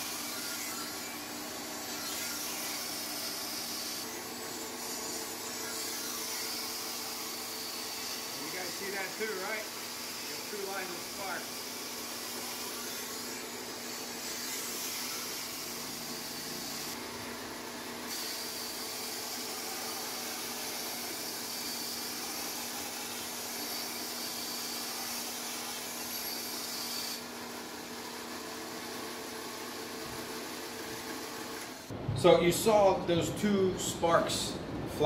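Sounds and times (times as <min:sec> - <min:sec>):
belt sander grinding steel blade: 0:00.0 - 0:31.9
sander motor humming: 0:00.0 - 0:32.0.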